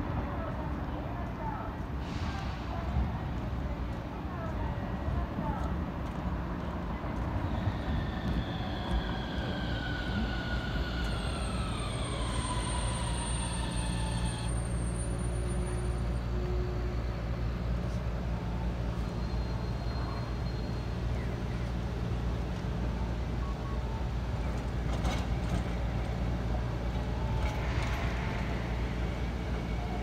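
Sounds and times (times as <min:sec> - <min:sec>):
tram electric drive whine: 0:03.3 - 0:30.0.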